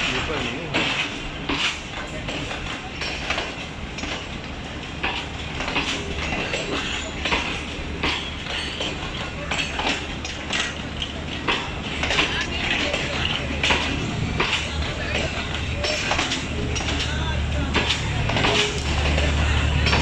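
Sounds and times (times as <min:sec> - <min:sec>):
train running gear rumble: 0:00.0 - 0:20.0
train wheels clicking over rail joints: 0:00.0 - 0:20.0.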